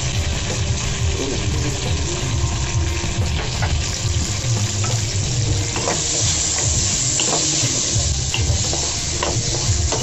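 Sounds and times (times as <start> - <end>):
potatoes sizzling in hot oil: 0.0 - 10.0.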